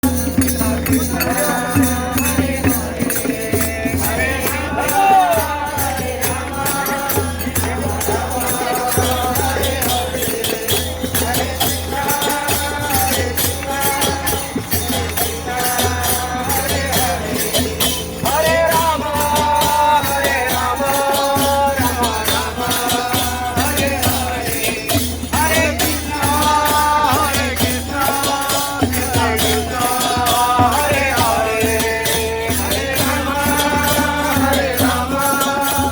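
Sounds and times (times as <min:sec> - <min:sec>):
drum beat: 0:00.0 - 0:35.9
jingling percussion: 0:00.0 - 0:35.9
voices chanting a devotional melody: 0:00.0 - 0:35.9.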